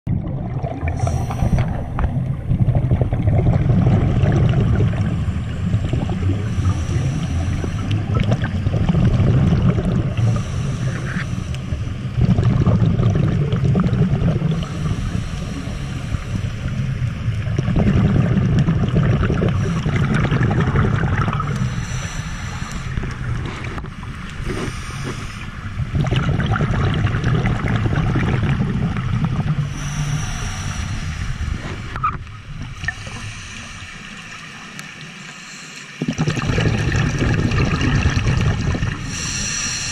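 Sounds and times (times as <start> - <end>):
bubbles rumbling underwater: 0.1 - 33.7, 36.0 - 39.9.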